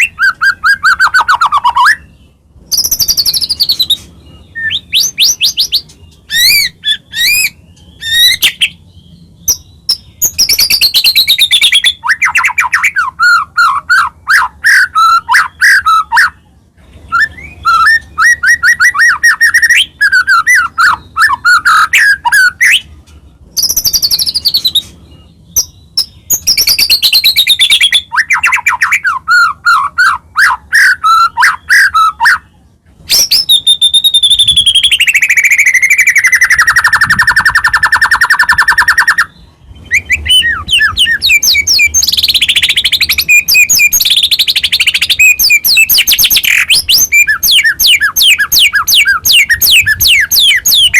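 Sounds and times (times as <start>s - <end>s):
songbird singing whistles and trills: 0.0s - 50.9s.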